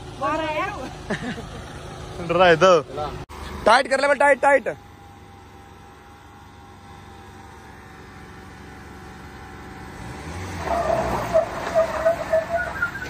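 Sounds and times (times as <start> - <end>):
engines straining with whine: 0.0 - 13.0.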